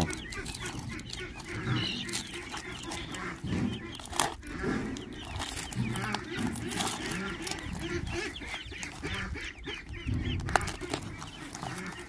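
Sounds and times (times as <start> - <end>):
poultry clucking: 0.0 - 12.0.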